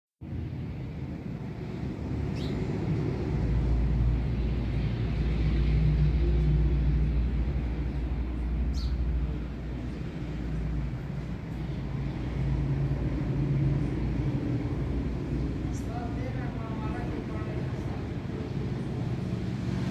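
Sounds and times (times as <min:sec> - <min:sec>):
truck engine rumbling: 0:00.2 - 0:19.9.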